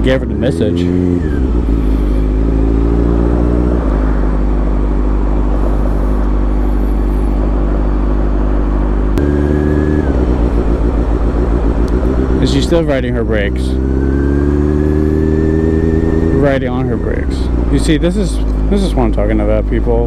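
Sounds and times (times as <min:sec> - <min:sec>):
motorcycle engine low revs: 0:00.0 - 0:20.0.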